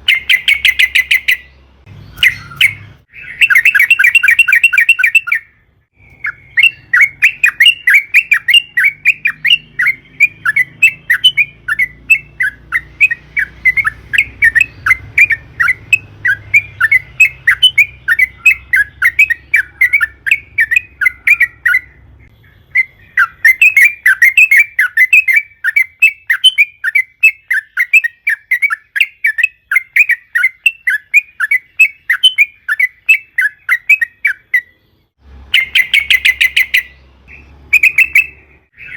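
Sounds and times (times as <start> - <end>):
bulbul chattering song: 0.0 - 38.9.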